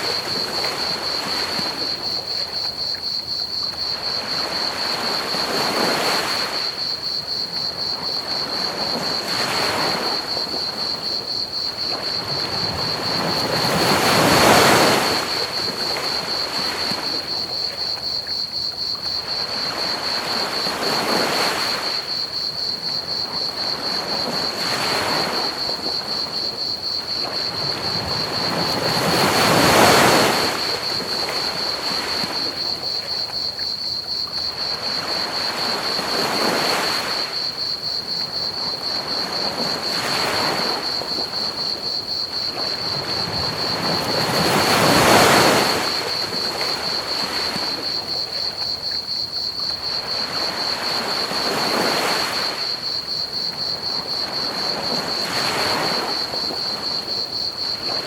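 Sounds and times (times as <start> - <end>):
crickets trilling: 0.0 - 58.0
ocean waves washing onto beach: 0.0 - 58.0.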